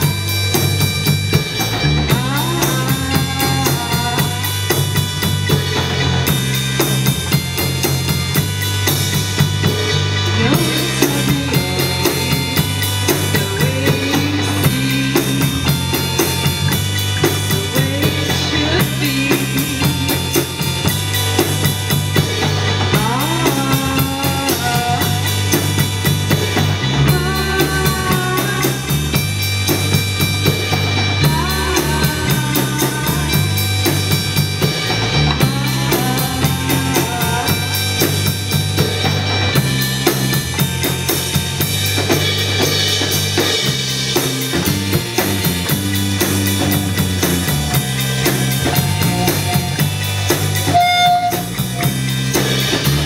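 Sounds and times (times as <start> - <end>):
drum kit beat: 0.0 - 53.0
live band playing: 0.0 - 53.0.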